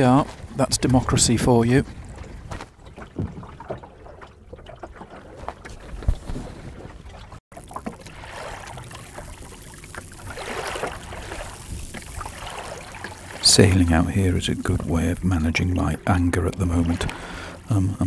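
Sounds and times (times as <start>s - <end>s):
water sloshing along boat hull: 0.0s - 18.0s.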